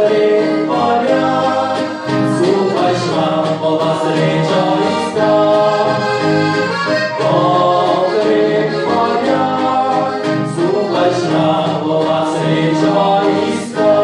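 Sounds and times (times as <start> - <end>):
accordion: 0.0 - 14.0
acoustic guitar: 0.0 - 14.0
bass guitar: 0.0 - 14.0
men singing in harmony: 0.0 - 14.0.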